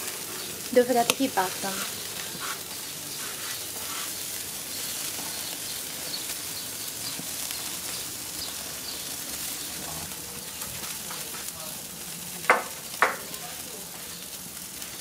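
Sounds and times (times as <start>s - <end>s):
corn sizzling on a grill: 0.0s - 15.0s.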